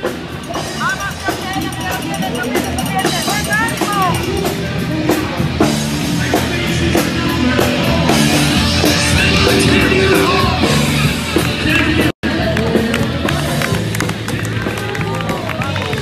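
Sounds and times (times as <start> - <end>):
rock music with vocals: 0.0 - 16.0.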